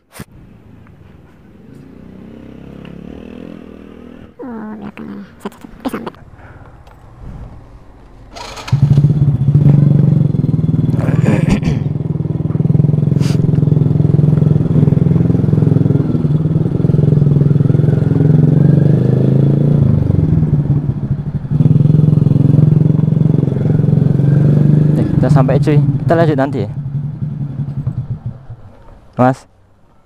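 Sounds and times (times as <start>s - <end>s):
motor scooter engine: 1.4s - 4.6s, 6.2s - 29.3s.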